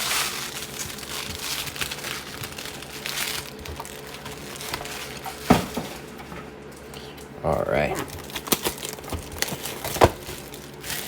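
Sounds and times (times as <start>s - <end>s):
plastic wrappers crinkling: 0.0s - 6.9s, 7.7s - 11.0s.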